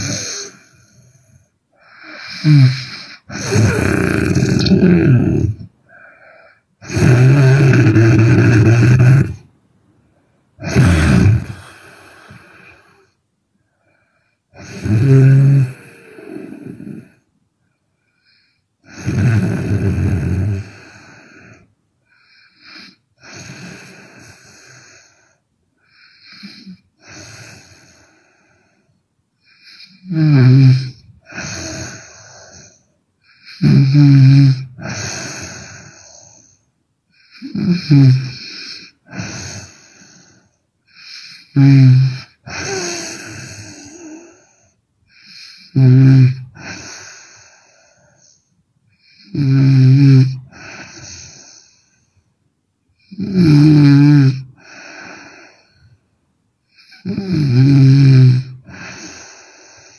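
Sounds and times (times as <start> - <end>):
woman snoring: 0.0 - 9.4, 10.6 - 13.2, 14.5 - 17.2, 18.3 - 28.8, 29.4 - 36.6, 37.2 - 48.4, 49.0 - 51.9, 53.0 - 55.9, 56.7 - 59.9.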